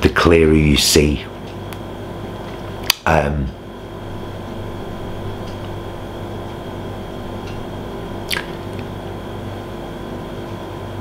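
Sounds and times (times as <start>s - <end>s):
faint constant tones: 0.0s - 11.0s
low hum: 0.0s - 11.0s.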